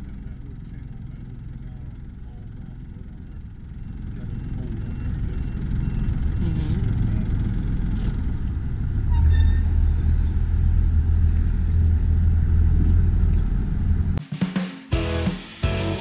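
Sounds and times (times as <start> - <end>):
outboard motor droning: 0.0 - 14.2.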